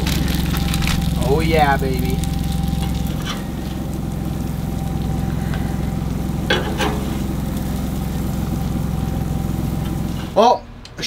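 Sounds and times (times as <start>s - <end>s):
patties sizzling on a griddle: 0.0s - 10.6s
low hum: 0.0s - 11.0s.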